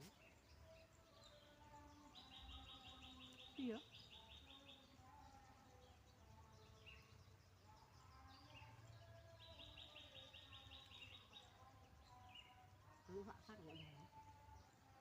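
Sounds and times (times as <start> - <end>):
bird chirps: 0.0 - 15.0.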